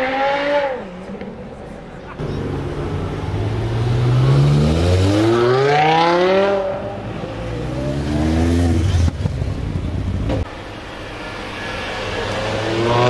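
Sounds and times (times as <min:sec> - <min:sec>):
car engine accelerating: 0:02.1 - 0:13.0.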